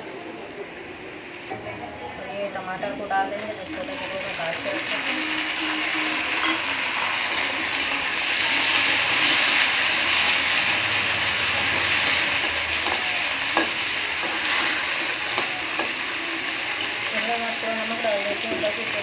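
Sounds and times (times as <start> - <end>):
onions sizzling in oil: 3.3 - 19.0.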